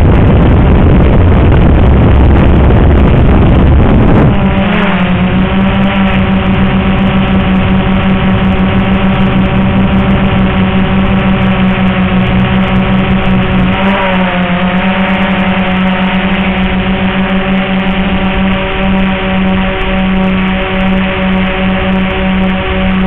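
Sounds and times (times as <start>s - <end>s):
quadcopter motors humming: 0.0s - 23.0s.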